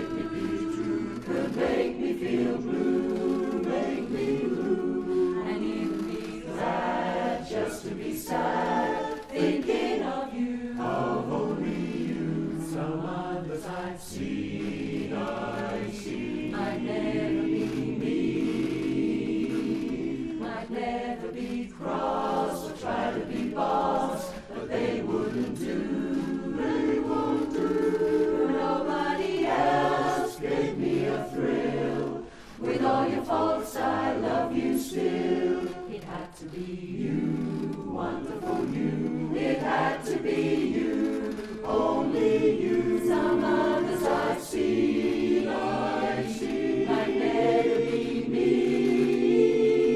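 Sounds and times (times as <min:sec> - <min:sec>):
chorus singing a cappella: 0:00.0 - 0:49.9.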